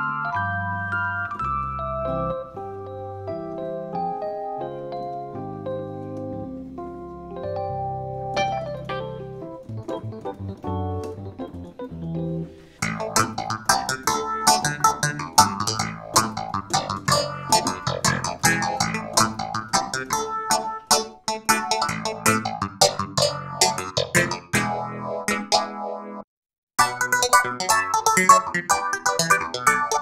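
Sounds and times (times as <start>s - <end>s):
electric piano chords and runs: 0.0s - 26.2s, 26.8s - 30.0s.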